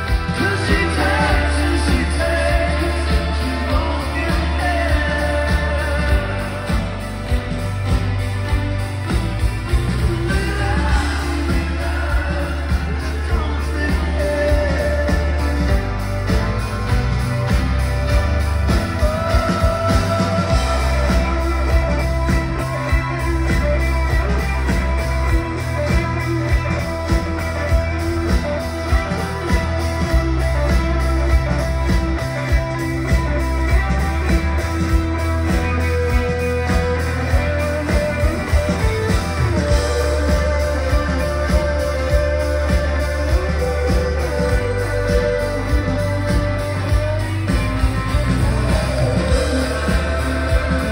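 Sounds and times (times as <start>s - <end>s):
electric guitar: 0.0s - 50.9s
heavy bass: 0.0s - 50.9s
steady drum beat: 0.0s - 50.9s.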